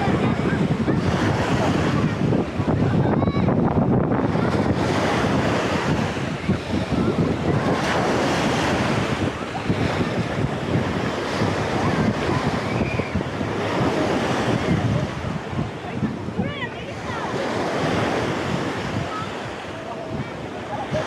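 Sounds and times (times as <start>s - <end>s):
sea waves washing onto shore: 0.0s - 21.0s
wind buffeting microphone: 0.0s - 21.0s.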